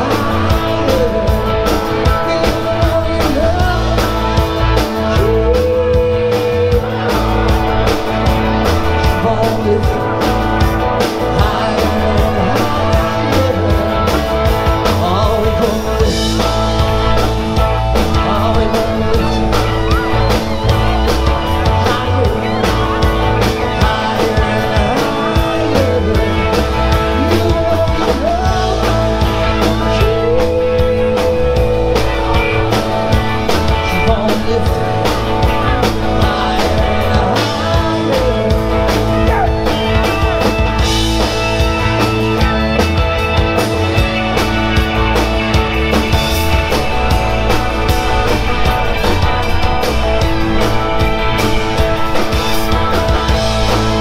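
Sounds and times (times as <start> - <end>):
drum kit beat: 0.0 - 54.0
live rock band playing: 0.0 - 54.0.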